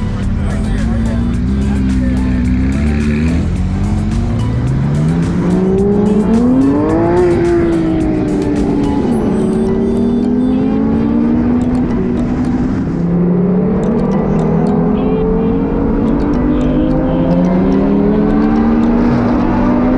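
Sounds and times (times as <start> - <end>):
sports car engine accelerating: 0.0 - 19.9.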